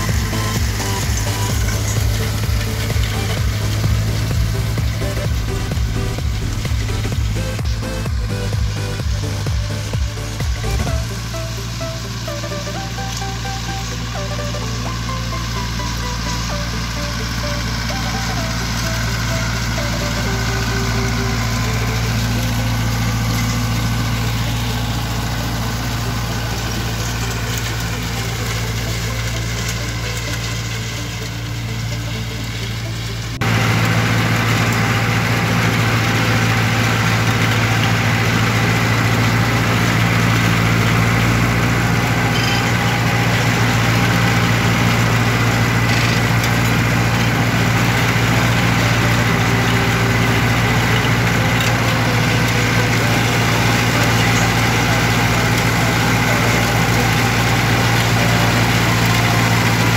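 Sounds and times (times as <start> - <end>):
engine heard from inside cab: 0.0 - 59.9
tractor engine running: 0.0 - 59.9.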